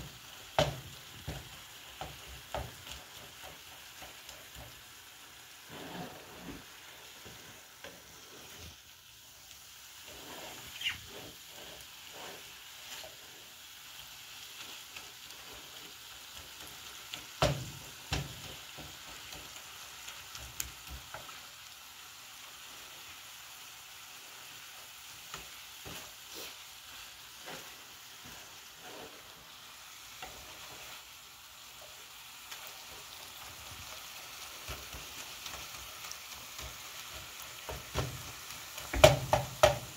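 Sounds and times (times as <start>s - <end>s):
spatula scraping and tapping pan: 0.0s - 8.8s, 10.0s - 21.5s, 25.0s - 31.1s, 31.8s - 39.9s
meat sizzling in a frying pan: 0.0s - 39.9s.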